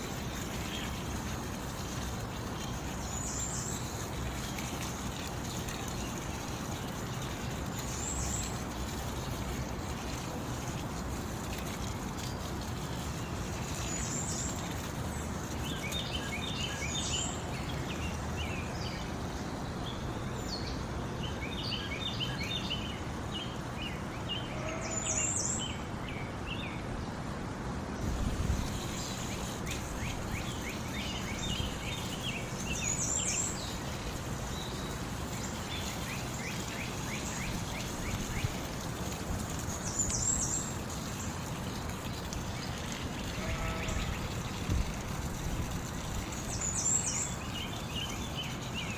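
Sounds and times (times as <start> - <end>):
small songbirds chirping: 0.0 - 27.2, 27.9 - 48.9
running water: 0.0 - 48.9.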